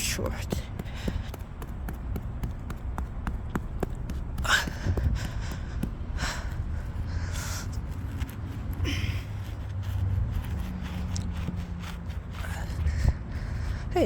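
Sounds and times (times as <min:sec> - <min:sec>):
soil and stones crunching: 0:00.0 - 0:13.2.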